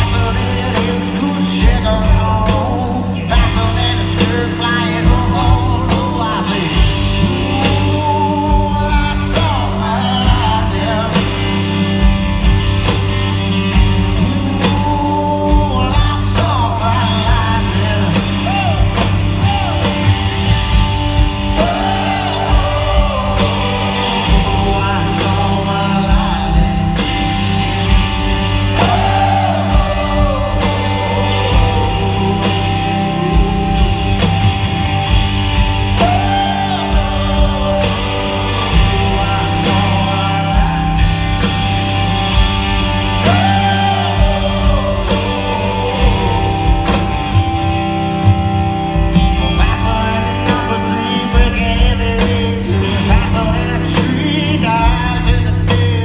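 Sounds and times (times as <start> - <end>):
person singing lead vocal: 0.0 - 20.1, 21.1 - 48.3, 49.1 - 56.0
drum kit: 0.0 - 56.0
electric guitars: 0.0 - 56.0
live rock band playing: 0.0 - 56.0.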